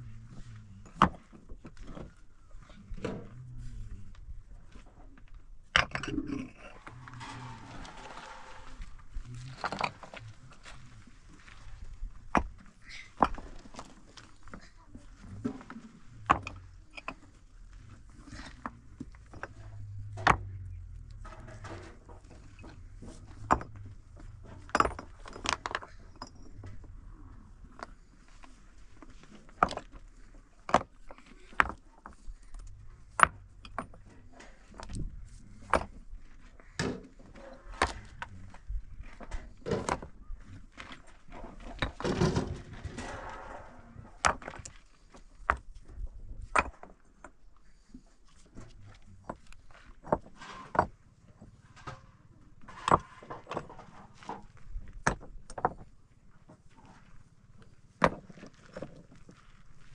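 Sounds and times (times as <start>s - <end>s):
stones rattling and scraping: 0.1s - 59.9s.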